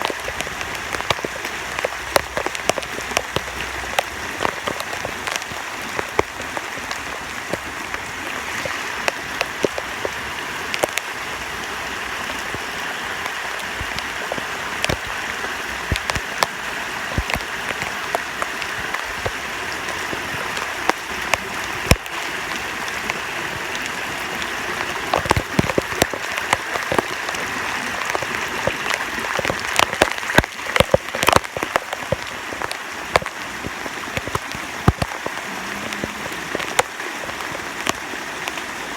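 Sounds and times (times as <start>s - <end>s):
heavy rain falling: 0.0s - 38.9s
raindrops ticking close by: 0.0s - 38.9s.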